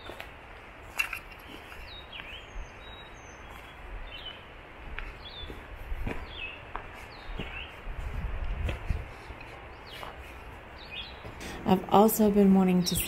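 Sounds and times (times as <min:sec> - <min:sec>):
footsteps on gravel: 0:00.0 - 0:11.4
small birds chirping: 0:00.0 - 0:13.0.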